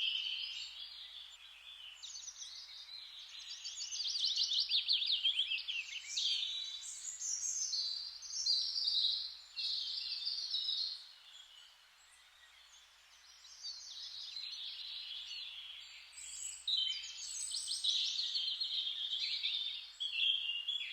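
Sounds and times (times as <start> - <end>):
songbirds singing: 0.0 - 20.9.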